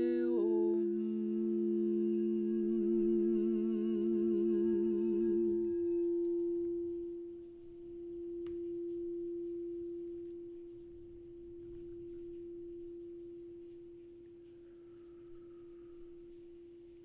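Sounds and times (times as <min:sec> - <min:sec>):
pure ringing tone: 0:00.0 - 0:17.0.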